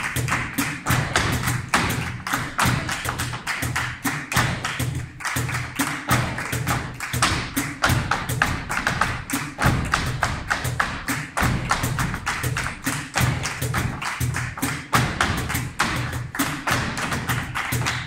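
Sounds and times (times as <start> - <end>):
rhythmic hand-clapping: 0.0 - 18.0.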